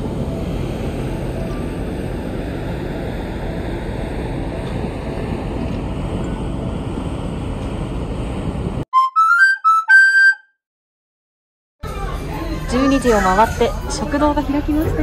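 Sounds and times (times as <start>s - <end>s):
ferry engines rumbling: 0.0s - 10.4s, 11.8s - 15.0s.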